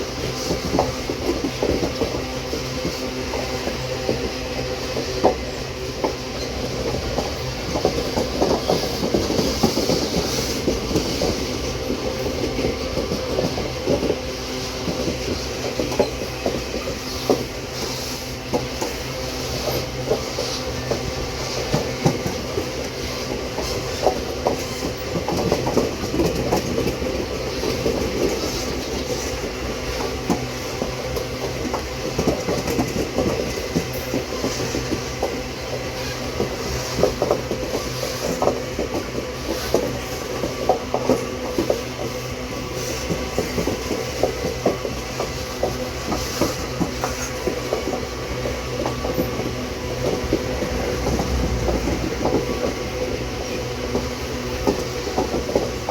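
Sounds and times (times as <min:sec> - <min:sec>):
train wagons rumbling: 0:00.0 - 0:55.9
wheels clicking on track: 0:00.0 - 0:55.9.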